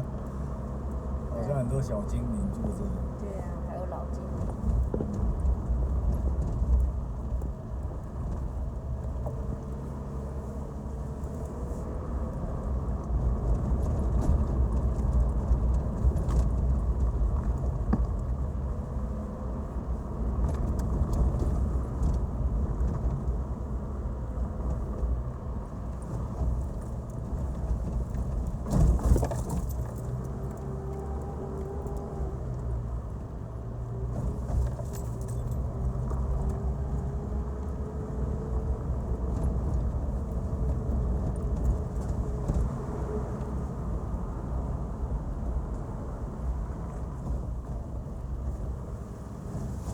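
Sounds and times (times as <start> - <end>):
vehicle engine and tyre rumble: 0.0 - 49.9
vehicle jolt: 3.0 - 49.9.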